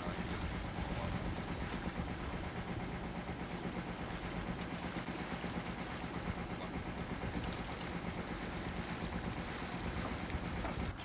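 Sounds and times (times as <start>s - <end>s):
boat engine humming: 0.0s - 11.0s
water noise: 0.0s - 11.0s
wind: 0.0s - 11.0s.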